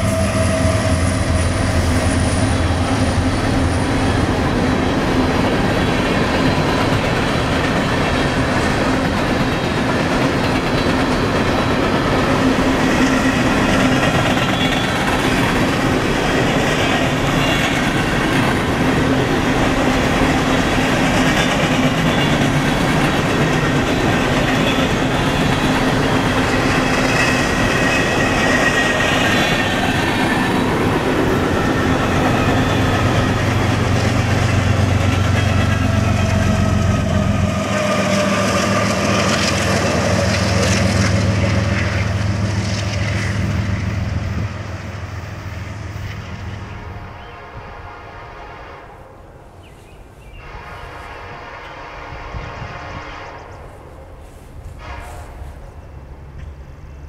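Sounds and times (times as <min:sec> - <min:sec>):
diesel locomotive engine drone: 0:00.0 - 0:57.0
train wheels on rails: 0:00.0 - 0:57.0.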